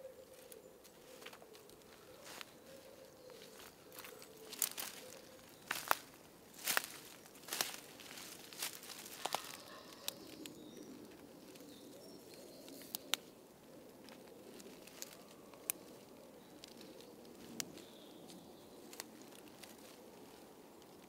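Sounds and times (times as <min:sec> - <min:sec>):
faint birds calling: 0:00.0 - 0:21.0
rustling in undergrowth: 0:00.2 - 0:21.0
twigs snapping and crackling: 0:00.3 - 0:21.0.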